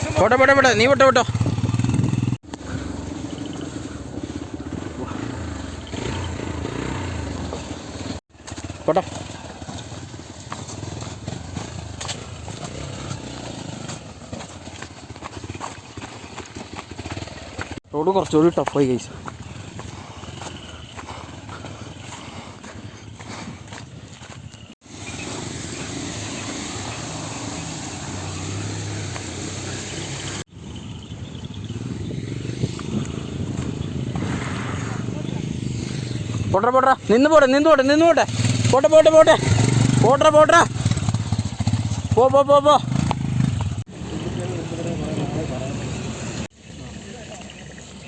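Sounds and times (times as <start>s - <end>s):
motorcycle engine running: 0.0s - 48.0s
wind and road noise: 0.0s - 48.0s.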